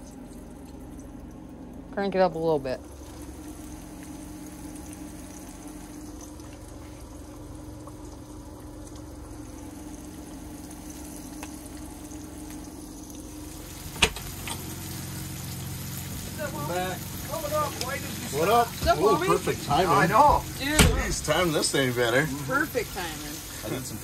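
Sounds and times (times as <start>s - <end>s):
fish frying in oil: 0.0s - 24.0s
low steady hum: 0.0s - 24.0s.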